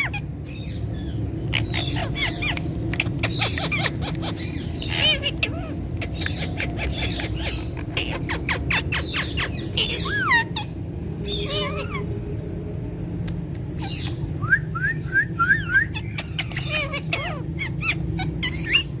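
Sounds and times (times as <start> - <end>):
parakeets chirping and squawking: 0.0 - 19.0
steady low hum: 0.0 - 19.0.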